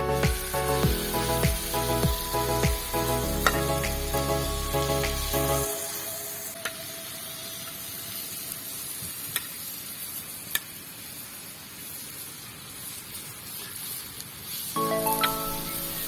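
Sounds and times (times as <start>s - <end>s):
noodles sizzling on a hot pan: 0.0s - 16.0s.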